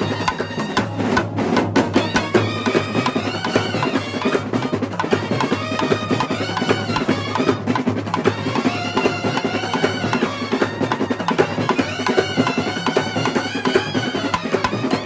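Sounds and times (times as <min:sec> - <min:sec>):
brass band melody: 0:00.0 - 0:15.0
side drums and bass drums: 0:00.0 - 0:15.0.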